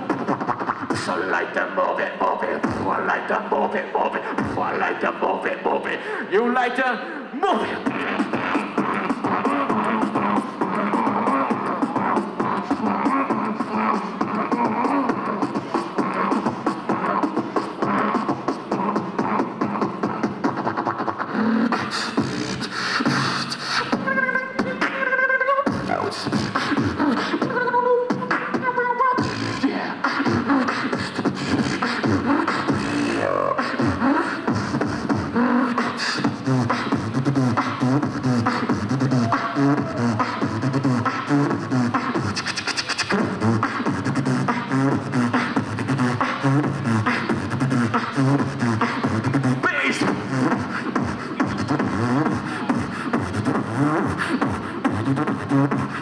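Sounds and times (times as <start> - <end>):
sung vocal phrases: 0.0 - 56.0.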